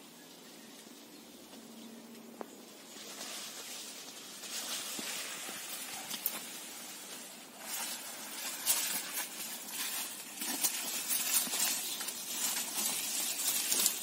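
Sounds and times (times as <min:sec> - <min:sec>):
maize leaves rustling: 0:00.0 - 0:14.0.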